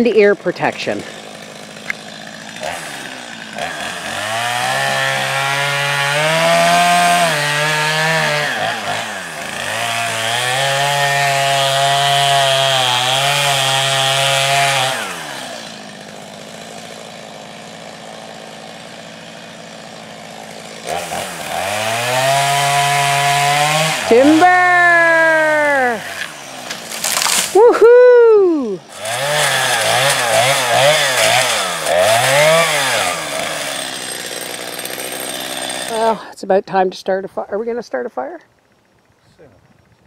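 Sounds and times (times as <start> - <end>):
chainsaw cutting and idling: 0.0 - 37.0.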